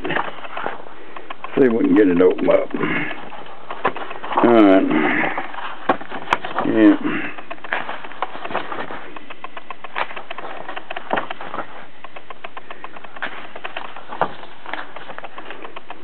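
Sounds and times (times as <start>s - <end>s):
background hiss: 0.0s - 16.0s
book pages turning: 0.0s - 16.0s.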